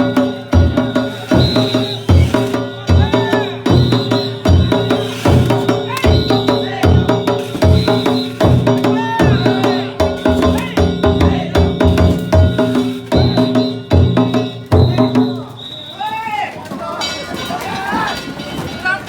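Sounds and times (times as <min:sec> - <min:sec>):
hand gongs clanging: 0:00.0 - 0:15.4
taiko drum beating: 0:00.0 - 0:15.6.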